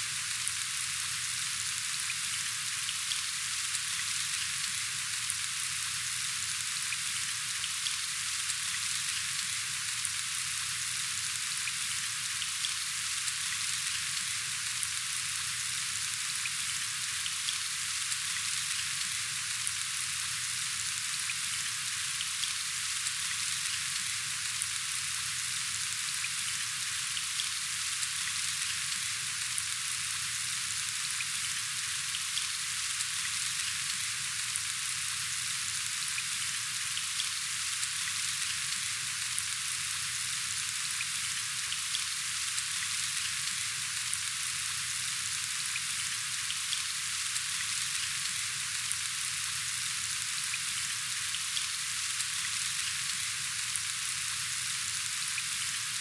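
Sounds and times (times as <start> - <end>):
steady rain hissing: 0.0 - 56.0.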